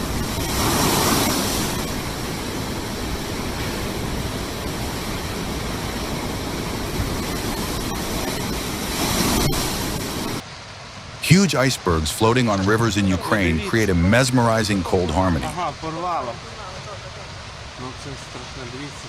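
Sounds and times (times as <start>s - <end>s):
fast-flowing floodwater rushing: 0.0s - 19.0s.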